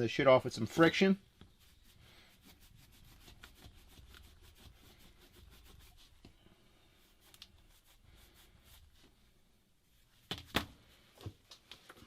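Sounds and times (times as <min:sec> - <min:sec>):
cloth rag rubbing: 0:00.6 - 0:10.2.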